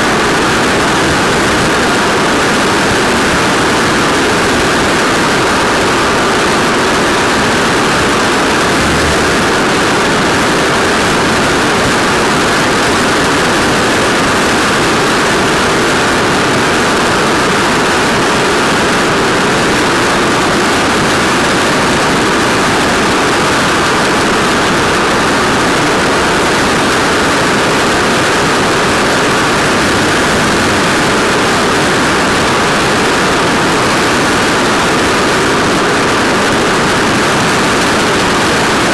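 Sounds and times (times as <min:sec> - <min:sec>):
skateboard wheels rolling on asphalt: 0:00.0 - 0:38.9.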